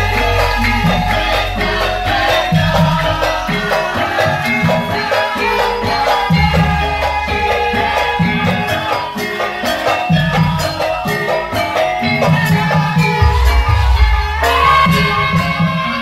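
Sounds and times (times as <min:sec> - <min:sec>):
drum: 0:00.0 - 0:05.2, 0:05.9 - 0:16.0
gamelan music: 0:00.0 - 0:16.0.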